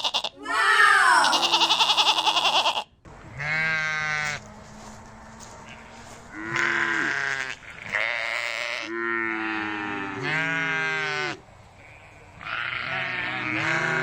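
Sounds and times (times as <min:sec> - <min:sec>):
sheep bleating: 0:00.0 - 0:04.5, 0:05.4 - 0:14.0.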